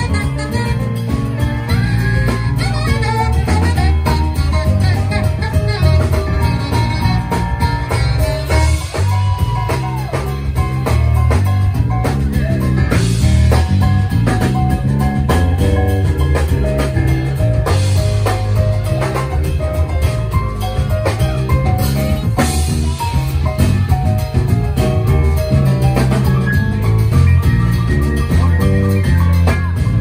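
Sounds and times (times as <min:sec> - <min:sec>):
drum kit beat: 0:00.0 - 0:30.0
electric keyboard: 0:00.0 - 0:30.0
saxophone: 0:00.0 - 0:30.0.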